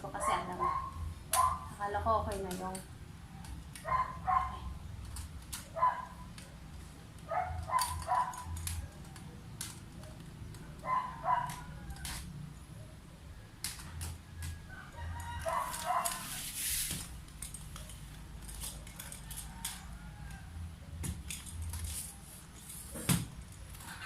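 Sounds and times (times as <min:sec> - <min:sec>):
metal stand clicking and rattling: 0:01.2 - 0:12.4, 0:13.6 - 0:16.4, 0:17.0 - 0:24.0.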